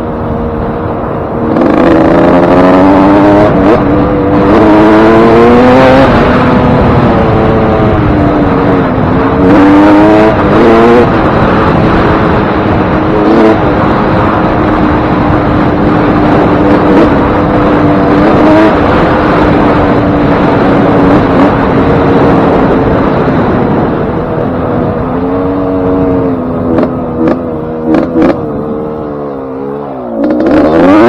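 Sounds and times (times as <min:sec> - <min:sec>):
two-stroke motocross engine revving: 0:01.5 - 0:23.9, 0:25.0 - 0:31.0.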